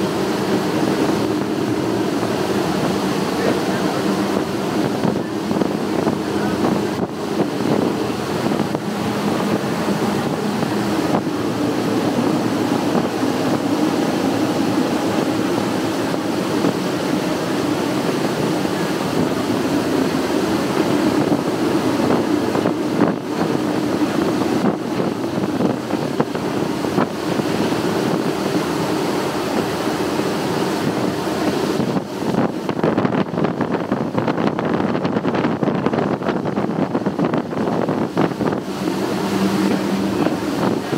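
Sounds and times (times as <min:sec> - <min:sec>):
outboard engines running: 0:00.0 - 0:40.9
water rushing off hull: 0:00.0 - 0:40.9
wind on microphone: 0:00.0 - 0:40.9.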